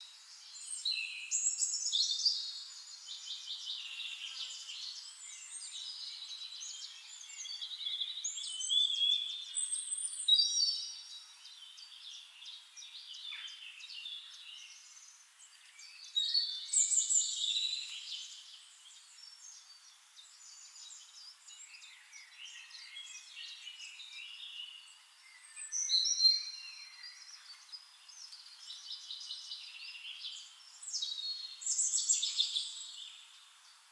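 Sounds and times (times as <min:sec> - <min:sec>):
forest birds singing: 0:00.0 - 0:33.9.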